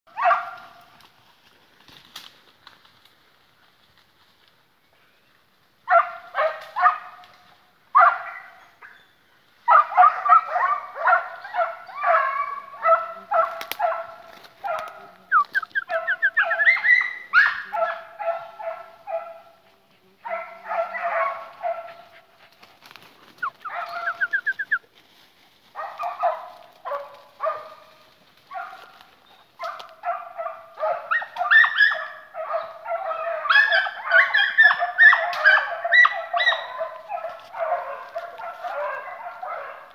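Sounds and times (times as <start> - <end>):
hounds baying: 0.1 - 1.0, 5.9 - 24.8, 25.6 - 39.9.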